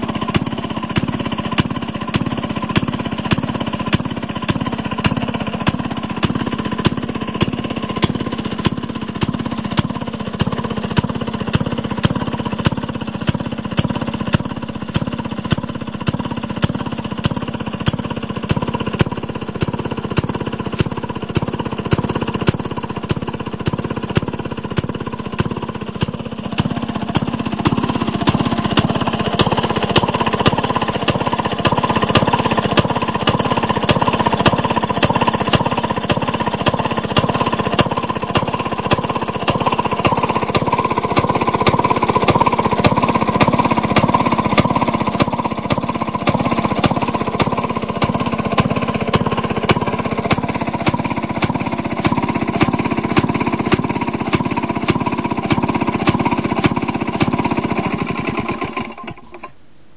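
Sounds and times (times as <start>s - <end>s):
two-stroke engine running: 0.0s - 59.9s.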